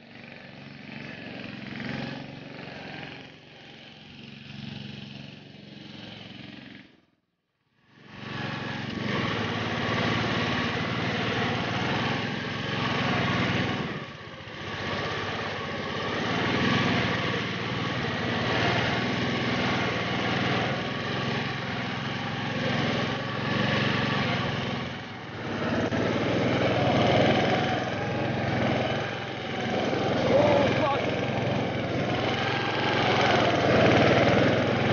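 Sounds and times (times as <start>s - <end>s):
lawn tractor engine running: 0.0s - 7.0s, 7.9s - 34.9s.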